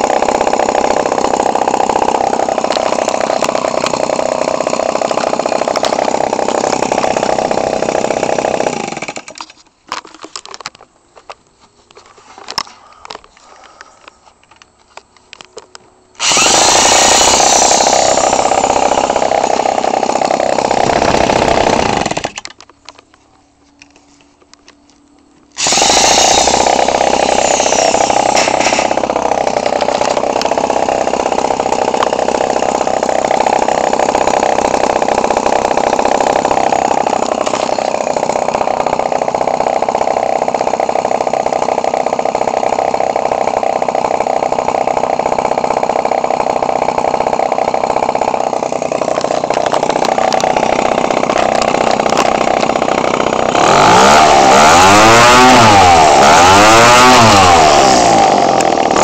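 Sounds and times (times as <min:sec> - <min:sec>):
loud two-stroke engine running: 0:00.0 - 0:09.3, 0:16.2 - 0:22.4, 0:25.6 - 0:59.0.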